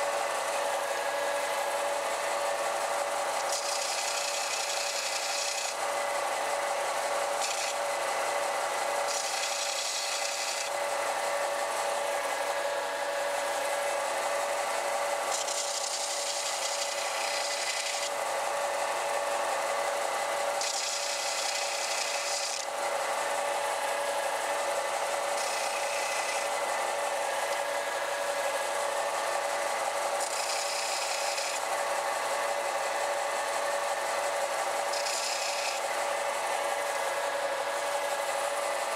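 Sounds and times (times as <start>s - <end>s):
belt sander running: 0.0s - 38.9s.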